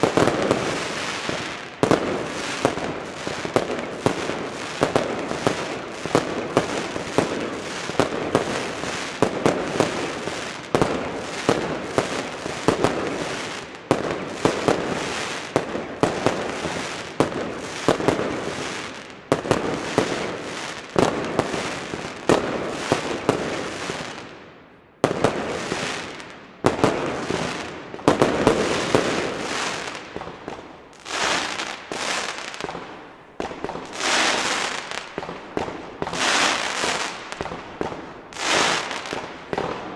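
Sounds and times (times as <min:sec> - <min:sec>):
fireworks firing and bursting: 0:00.0 - 0:39.9.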